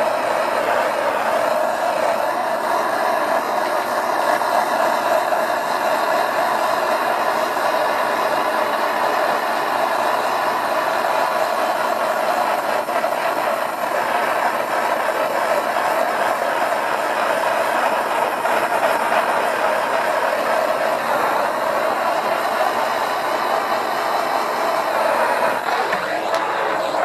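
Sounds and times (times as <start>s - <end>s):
propane torch hissing roar: 0.0s - 27.0s.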